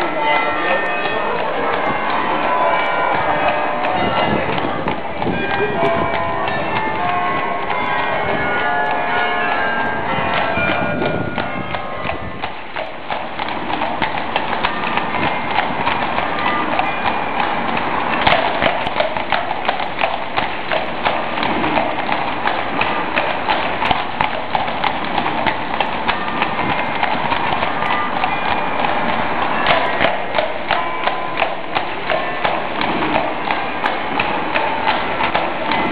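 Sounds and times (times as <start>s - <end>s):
horse hooves on cobblestones: 0.0s - 35.9s.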